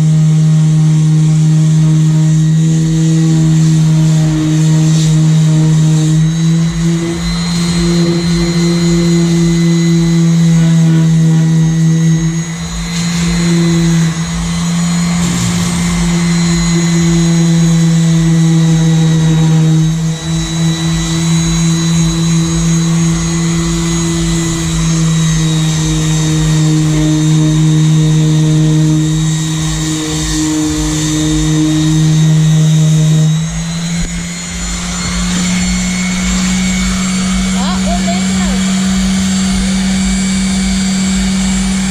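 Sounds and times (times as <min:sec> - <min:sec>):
electric power sander running: 0:00.0 - 0:41.9.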